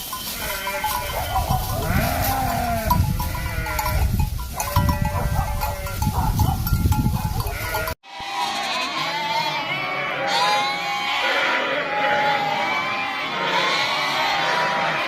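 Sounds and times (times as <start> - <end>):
sheep bleating: 0.2 - 6.4, 7.4 - 15.0.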